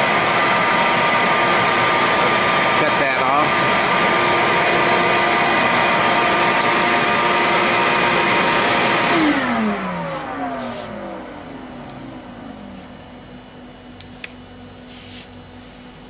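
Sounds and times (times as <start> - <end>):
motor winding down: 0.0 - 13.0
electric motor whining: 0.0 - 13.4.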